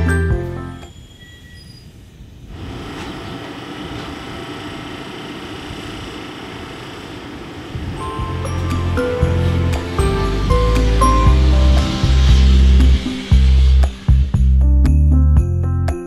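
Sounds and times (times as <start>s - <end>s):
train wheels rolling on track: 0.8s - 14.7s.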